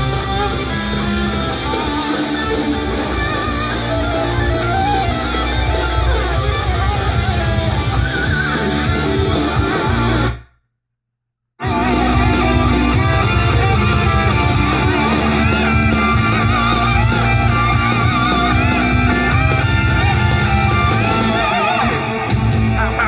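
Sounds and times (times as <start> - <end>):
guitar music with heavy bass: 0.0 - 10.4, 11.6 - 23.0.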